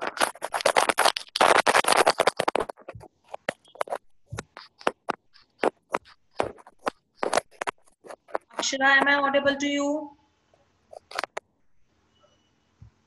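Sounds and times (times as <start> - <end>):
scratchy crackling audio noise: 0.0 - 12.0.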